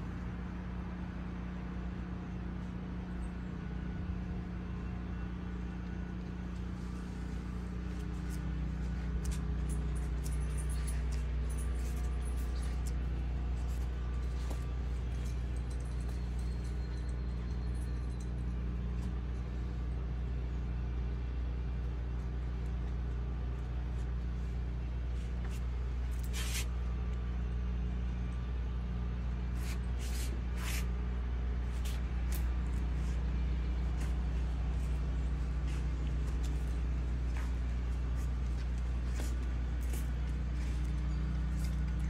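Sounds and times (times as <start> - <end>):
motor droning: 0.0 - 42.0.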